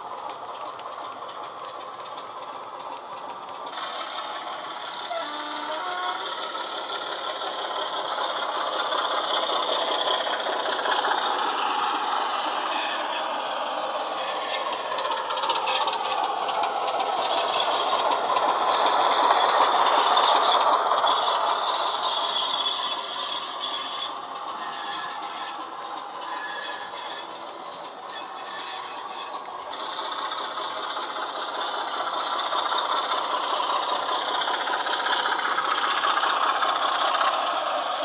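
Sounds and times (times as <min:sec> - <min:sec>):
model wheels rattling over track: 0:00.0 - 0:38.0.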